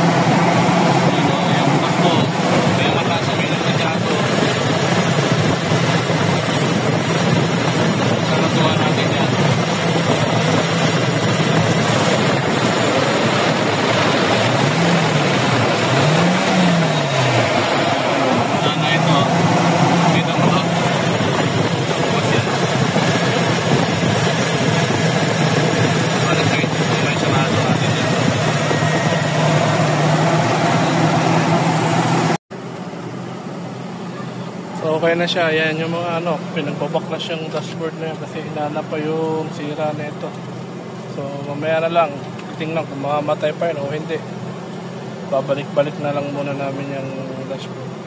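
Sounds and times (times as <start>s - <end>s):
petrol engine revving: 0.0s - 48.0s.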